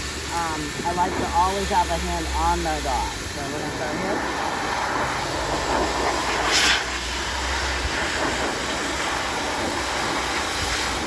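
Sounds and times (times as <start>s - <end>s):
grooming dryer blowing air: 0.0s - 11.0s.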